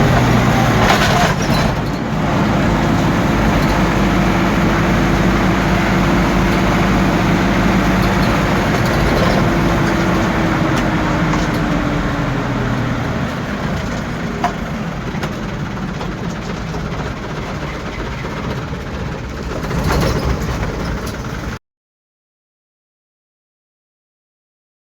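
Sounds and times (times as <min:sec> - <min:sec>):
diesel truck engine revving: 0:00.0 - 0:21.6
road noise: 0:00.0 - 0:21.6.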